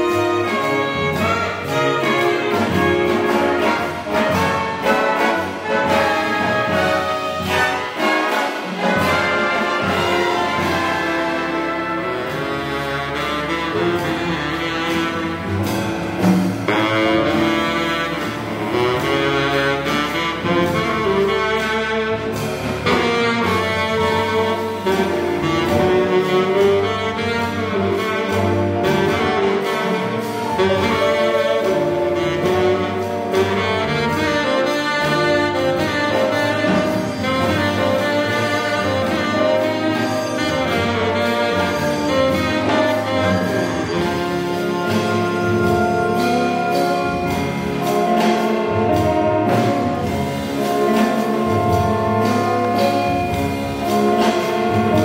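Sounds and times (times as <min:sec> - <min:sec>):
baritone saxophone melody: 0:00.0 - 0:55.0
jazz big band playing: 0:00.0 - 0:55.0.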